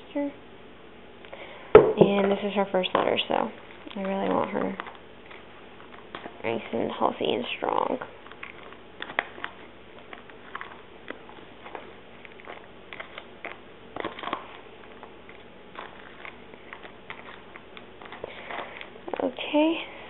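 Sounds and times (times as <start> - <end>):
plastic spoon stirring in container: 2.1 - 19.6.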